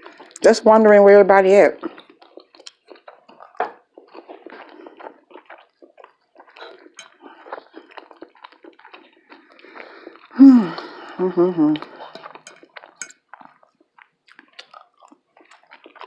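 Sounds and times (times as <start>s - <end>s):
person chewing food: 0.0s - 0.6s, 1.8s - 16.0s.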